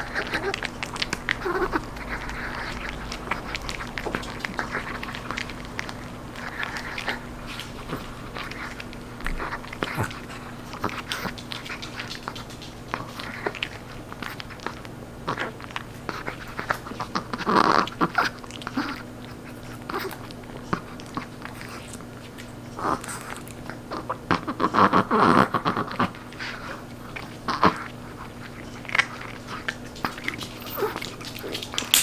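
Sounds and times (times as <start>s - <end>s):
dog crunching a treat: 0.0s - 32.0s.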